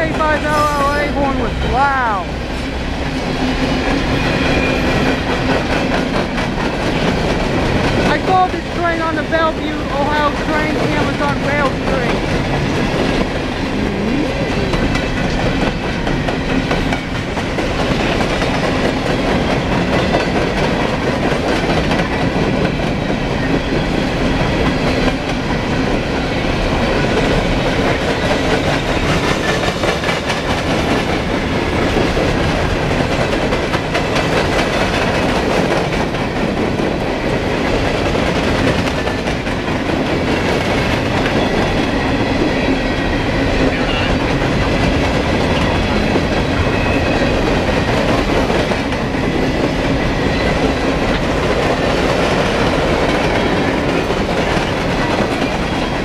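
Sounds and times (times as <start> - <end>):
steel wheels running over rails: 0.0 - 56.0.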